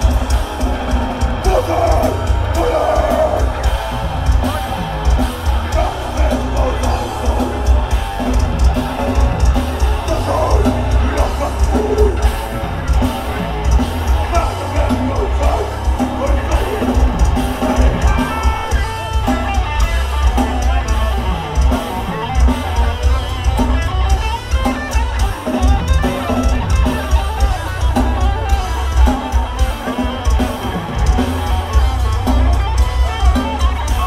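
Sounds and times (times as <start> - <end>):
bass guitar: 0.0 - 34.0
distorted electric guitars: 0.0 - 34.0
fast drumming: 0.0 - 34.0.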